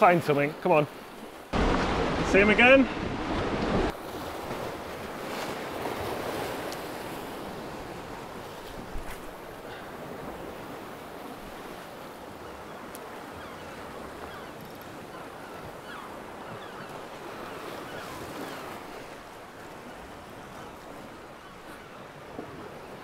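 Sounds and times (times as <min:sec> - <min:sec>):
waves breaking against rocks: 0:00.0 - 0:23.0.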